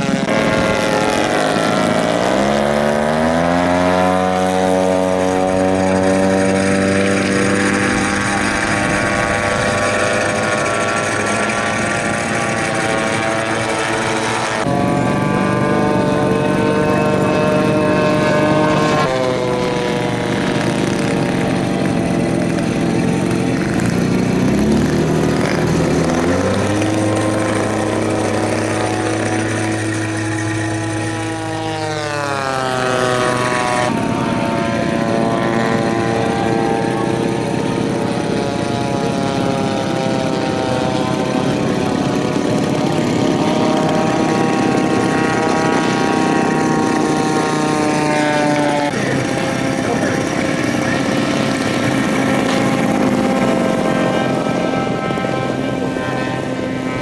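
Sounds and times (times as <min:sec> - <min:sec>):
model airplane propeller engines: 0:00.0 - 0:57.0.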